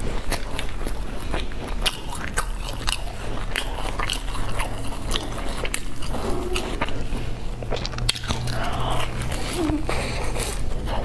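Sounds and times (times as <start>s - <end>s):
biting and chewing crusty bread: 0.0s - 11.0s.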